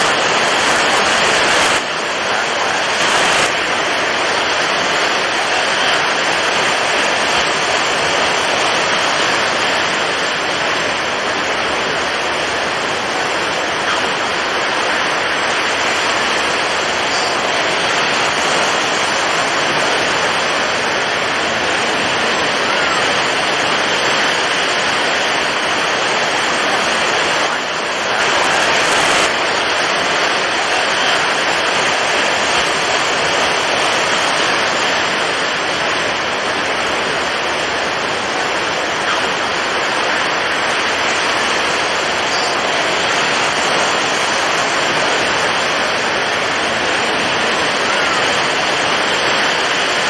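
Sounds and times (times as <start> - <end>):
heavy waves: 0.0 - 50.0
strong wind: 0.0 - 50.0.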